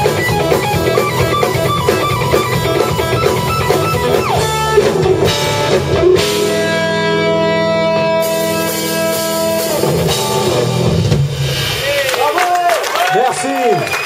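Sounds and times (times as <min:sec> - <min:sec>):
live rock band playing: 0:00.0 - 0:12.6.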